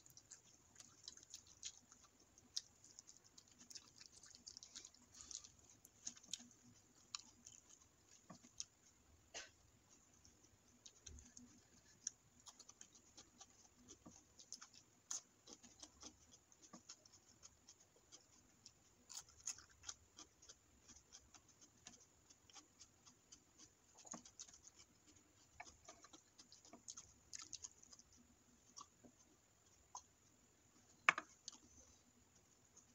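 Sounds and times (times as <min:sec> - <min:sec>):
wet chewing and finger licking: 0:00.0 - 0:32.9.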